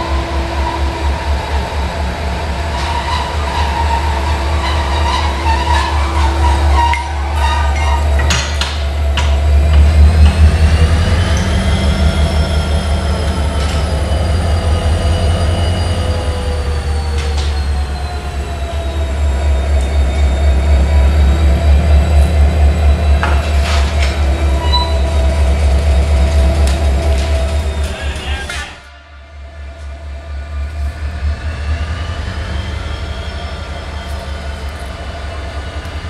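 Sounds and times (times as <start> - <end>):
diesel locomotive droning: 0.0 - 36.0
high squeal: 2.7 - 9.4, 10.5 - 26.5, 27.3 - 36.0.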